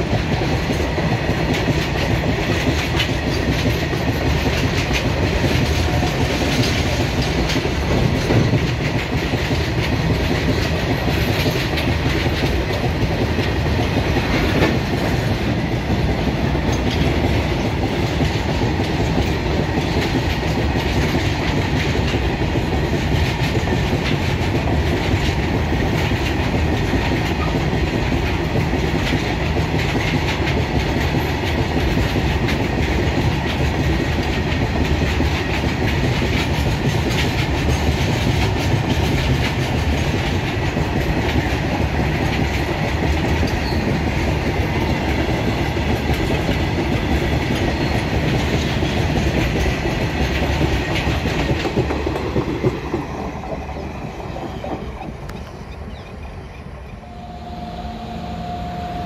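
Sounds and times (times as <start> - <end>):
train wheels clattering over rail joints: 0.0 - 56.2.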